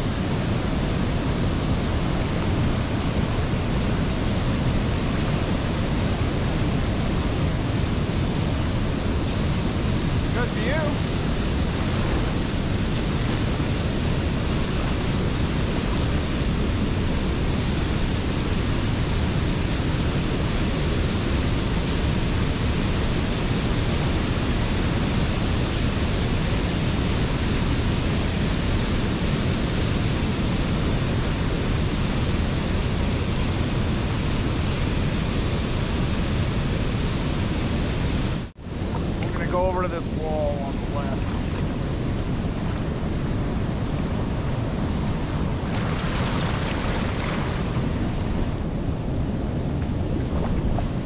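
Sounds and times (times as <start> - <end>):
waterfall rushing: 0.0 - 38.5, 39.1 - 48.7.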